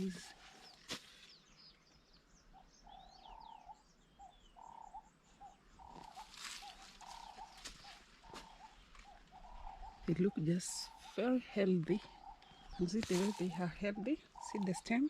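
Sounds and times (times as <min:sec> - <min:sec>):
bird repeating low note: 0:02.4 - 0:15.0.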